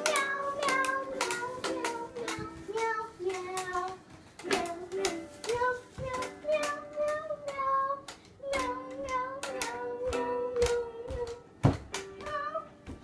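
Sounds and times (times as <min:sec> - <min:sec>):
child singing in high voice: 0:00.0 - 0:11.5, 0:12.2 - 0:12.9.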